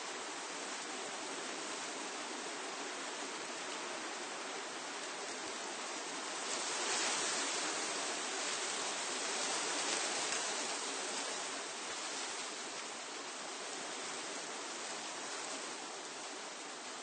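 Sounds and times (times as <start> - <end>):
wind rushing through tree leaves: 0.0 - 17.0.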